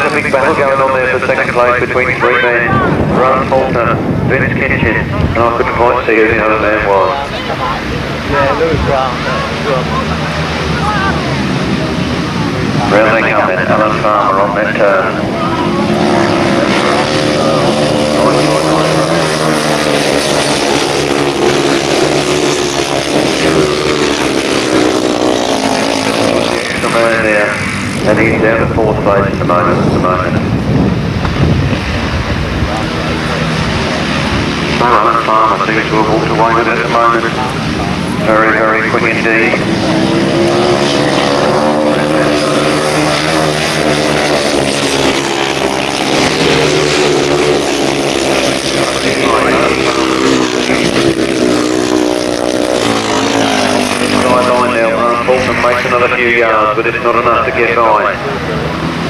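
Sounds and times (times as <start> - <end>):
racing motorcycle engines: 0.0 - 59.0.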